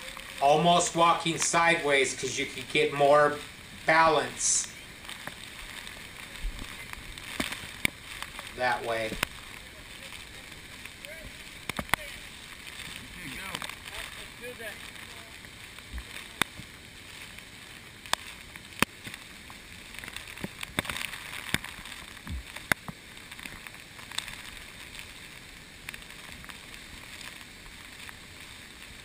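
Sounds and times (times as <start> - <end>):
water rushing: 0.0 - 29.0.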